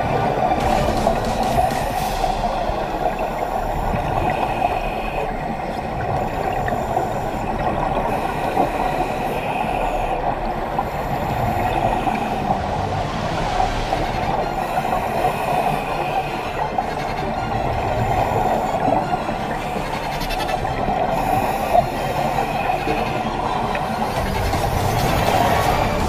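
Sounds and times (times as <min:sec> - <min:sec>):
exhaled bubbles from regulators: 0:00.0 - 0:26.0
muffled underwater water rush: 0:00.0 - 0:26.0.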